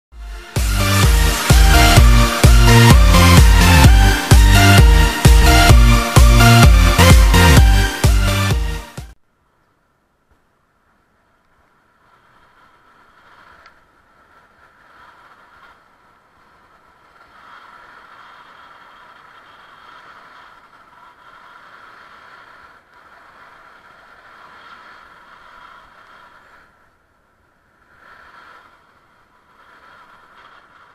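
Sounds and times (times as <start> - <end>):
bicycle tyre and wind hiss: 0.4 - 30.9.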